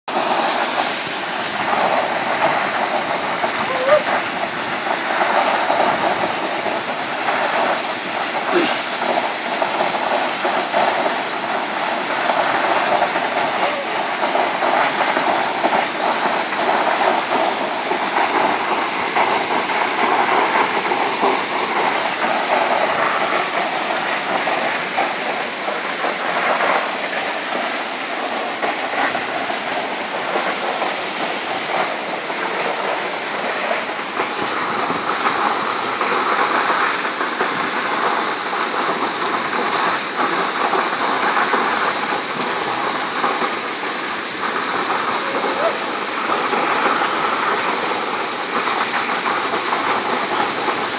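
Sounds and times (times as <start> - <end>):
waterfall rushing: 0.1 - 50.9.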